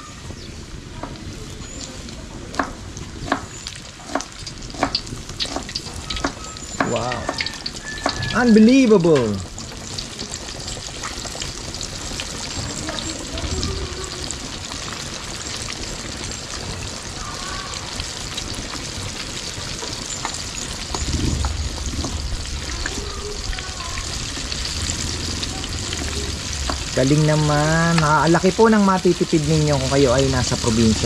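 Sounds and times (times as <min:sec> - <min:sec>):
chicken deep-frying in oil: 0:00.0 - 0:31.0.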